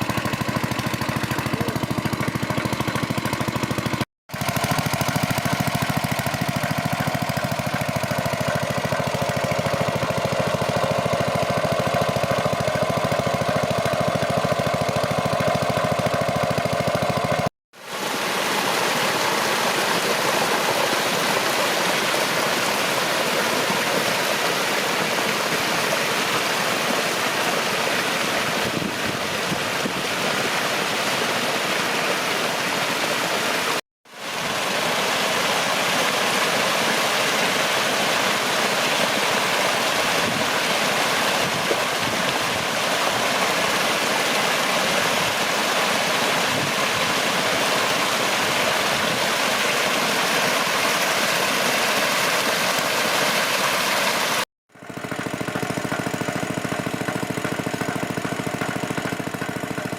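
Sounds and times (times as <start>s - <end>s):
water rushing: 0.0s - 54.5s.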